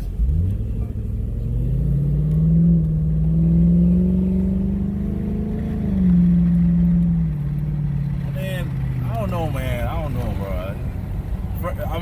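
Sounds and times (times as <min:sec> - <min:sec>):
car engine drone from inside: 0:00.0 - 0:12.0.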